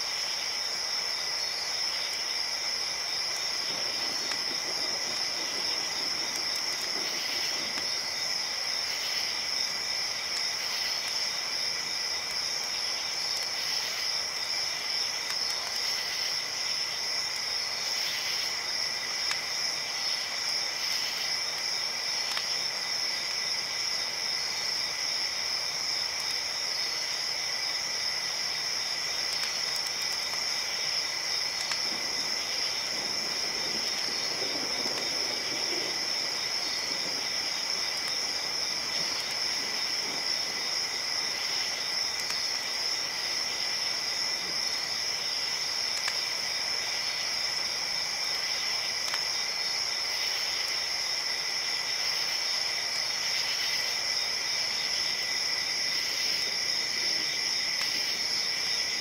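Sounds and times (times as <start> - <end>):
crickets chirping: 0.0 - 59.0
even hiss: 0.0 - 59.0.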